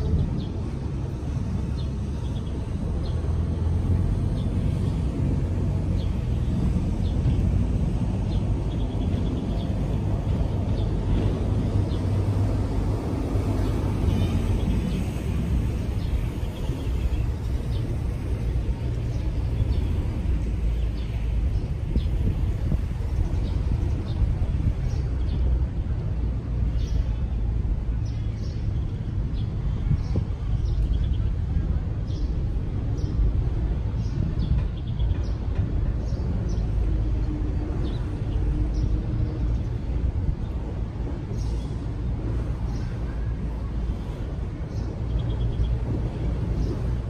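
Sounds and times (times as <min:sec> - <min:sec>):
street rumble: 0:00.0 - 0:47.0.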